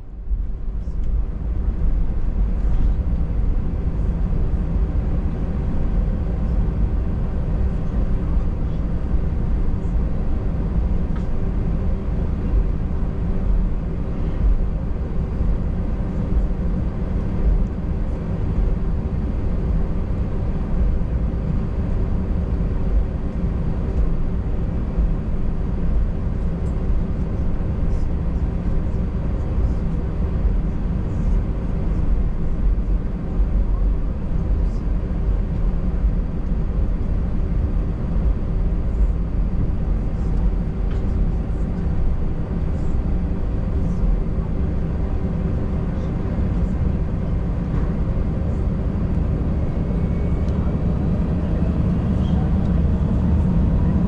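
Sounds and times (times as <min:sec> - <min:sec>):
jet engine hum in cabin: 0:00.0 - 0:54.0.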